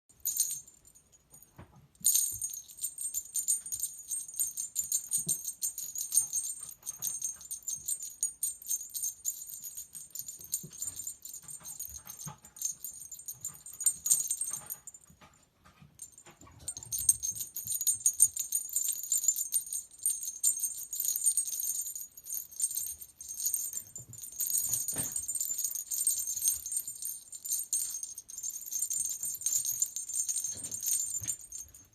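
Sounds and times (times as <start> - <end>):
jingle bell jangling: 0.1 - 31.9.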